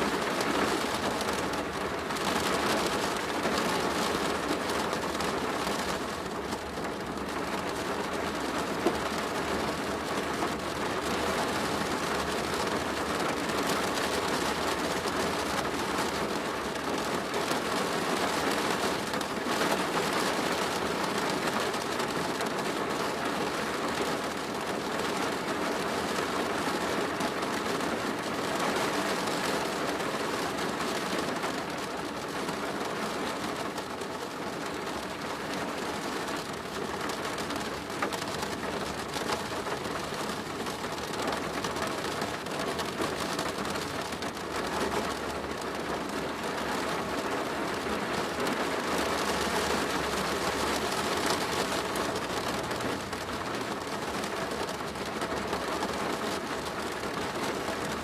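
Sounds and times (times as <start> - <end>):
rain on a plastic roof: 0.0 - 58.0.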